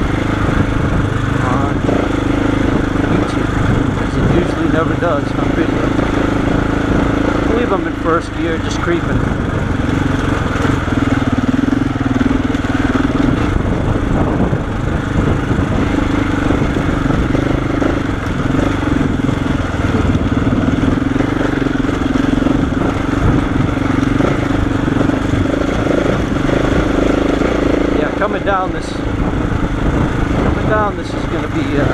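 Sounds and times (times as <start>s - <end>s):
motorcycle engine running at low revs: 0.0s - 31.9s.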